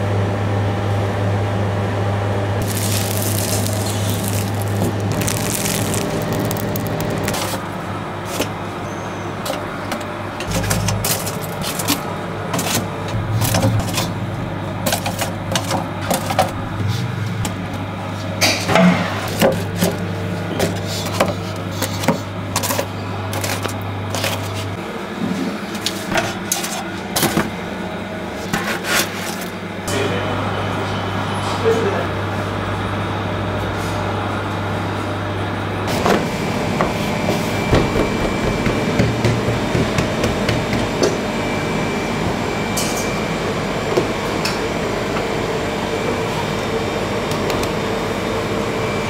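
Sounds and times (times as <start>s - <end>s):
low machine hum: 0.0s - 28.6s, 29.2s - 49.0s.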